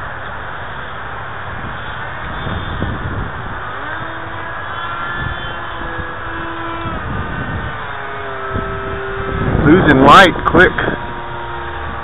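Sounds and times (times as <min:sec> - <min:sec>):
wind rumble on microphone: 0:00.0 - 0:12.0
electric motor whine: 0:01.8 - 0:12.0.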